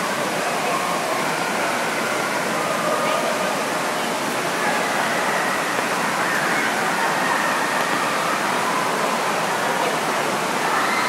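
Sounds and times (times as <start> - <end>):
faint indistinct voices: 0.0 - 11.0
splashing water rushing: 0.0 - 11.0.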